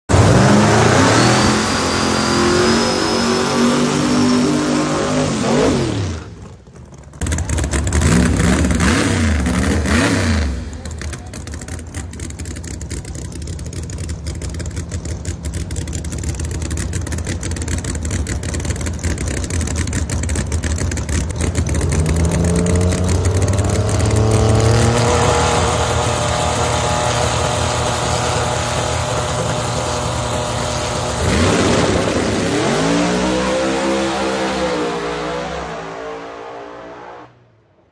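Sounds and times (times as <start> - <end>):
drag race engines revving: 0.1 - 37.5.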